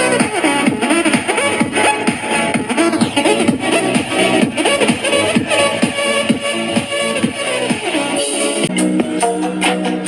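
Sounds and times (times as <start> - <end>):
electronic music with bass sweeps: 0.0 - 10.0.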